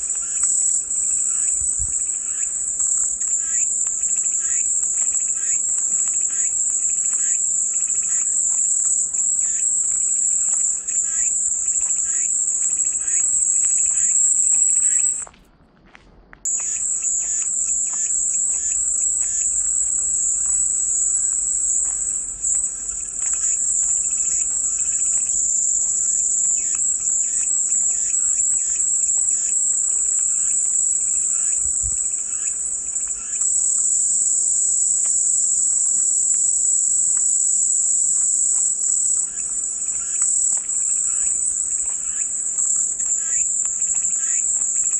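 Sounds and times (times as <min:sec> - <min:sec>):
cicadas buzzing: 0:00.0 - 0:15.3, 0:16.5 - 0:44.9.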